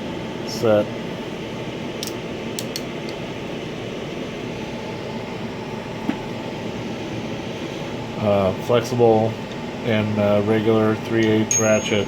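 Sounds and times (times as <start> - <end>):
steady room hum: 0.0 - 12.0.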